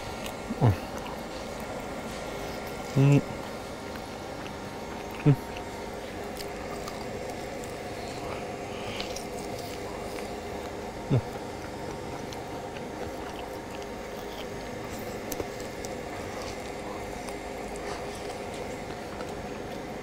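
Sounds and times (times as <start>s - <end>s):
person chewing meat: 0.0s - 20.0s.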